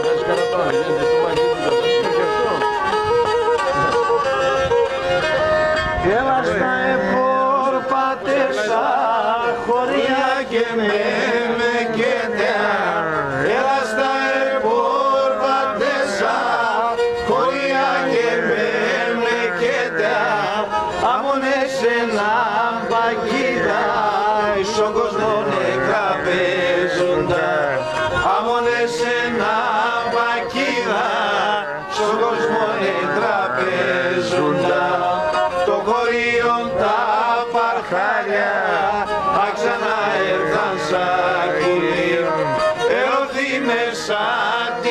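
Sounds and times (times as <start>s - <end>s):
bowed lyra folk melody: 0.0s - 44.9s
men singing: 6.0s - 44.9s.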